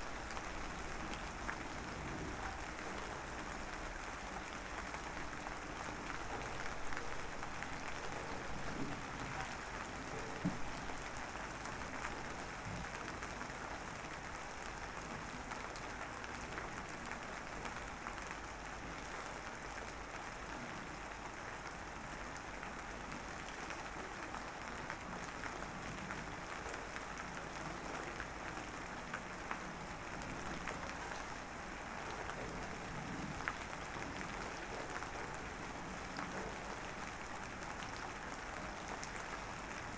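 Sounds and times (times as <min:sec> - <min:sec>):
light drizzle patter: 0:00.0 - 0:39.9.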